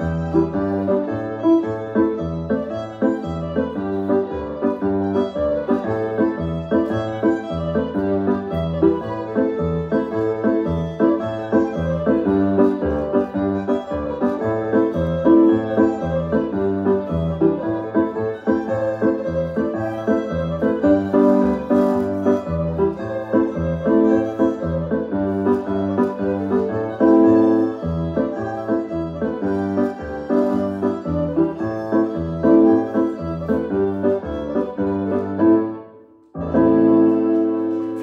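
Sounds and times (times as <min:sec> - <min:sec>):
dance music led by piano: 0:00.0 - 0:38.0.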